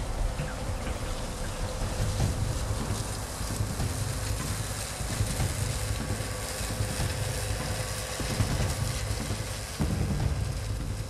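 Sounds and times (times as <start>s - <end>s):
combine harvester engine drone: 0.0s - 11.0s
threshing works hiss and clatter: 0.0s - 11.0s.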